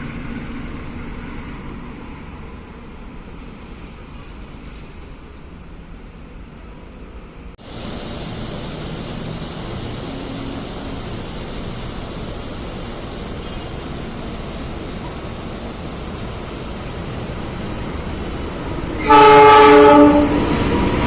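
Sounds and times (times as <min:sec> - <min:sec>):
train rushing rumble: 0:00.0 - 0:21.0.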